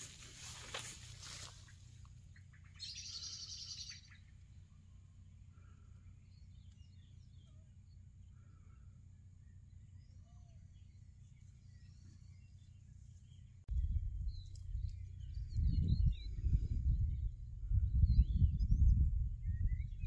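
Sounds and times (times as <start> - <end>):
low outdoor rumble: 0.0 - 20.0
faint bird chirps: 0.1 - 20.0.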